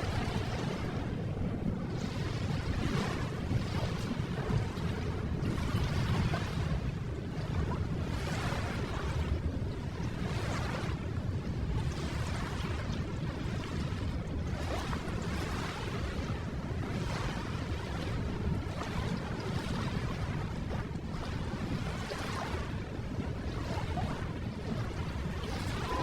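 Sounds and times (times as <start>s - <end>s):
ocean waves washing in: 0.0s - 26.0s.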